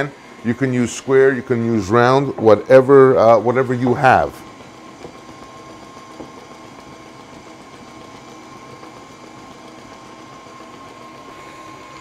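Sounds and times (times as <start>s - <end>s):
stand mixer motor whining: 0.0s - 12.0s.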